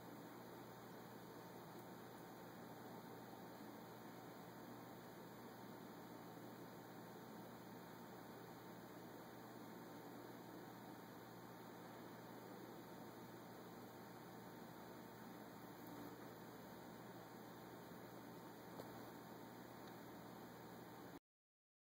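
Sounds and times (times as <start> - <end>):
faint hiss and hum: 0.0 - 21.2.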